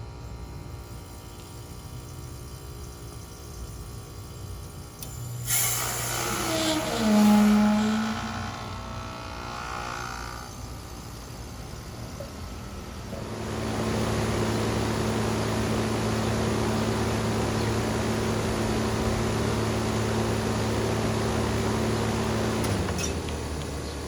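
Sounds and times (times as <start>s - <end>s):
air conditioning unit humming: 0.0s - 24.0s.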